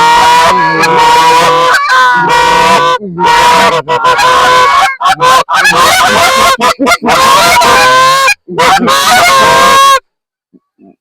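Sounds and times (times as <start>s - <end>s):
goose honking and clucking: 0.0s - 10.0s.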